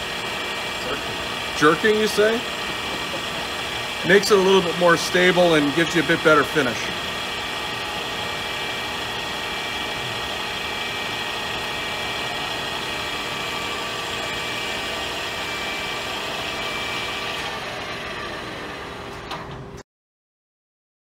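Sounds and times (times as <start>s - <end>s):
metal lathe whining: 0.0s - 19.6s.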